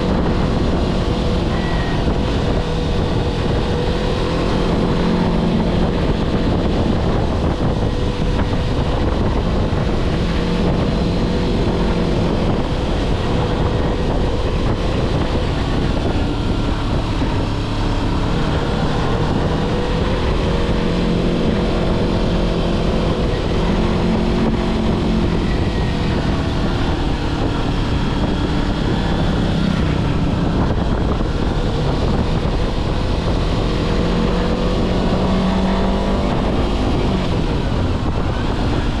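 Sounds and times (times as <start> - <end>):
motorcycle engine running: 0.0 - 39.0
wind rushing over microphone: 0.0 - 39.0.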